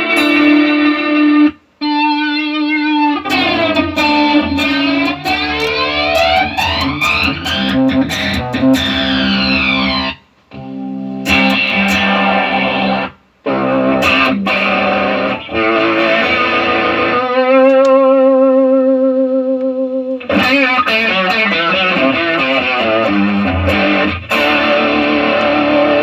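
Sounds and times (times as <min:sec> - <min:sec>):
electric guitar with effects: 0:00.0 - 0:26.0.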